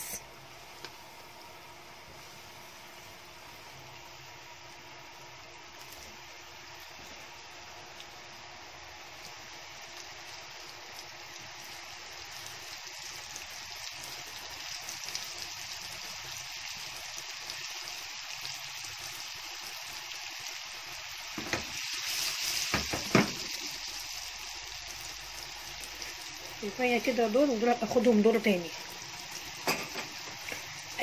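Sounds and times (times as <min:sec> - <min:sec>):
meatballs sizzling in hot oil: 0:00.0 - 0:31.0.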